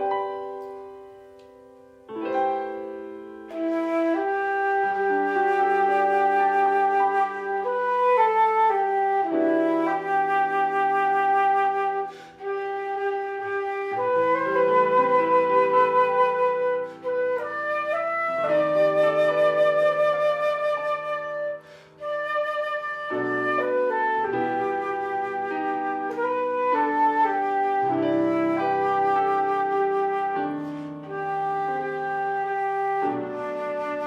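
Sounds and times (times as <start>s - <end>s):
flute melody: 0.0s - 34.0s.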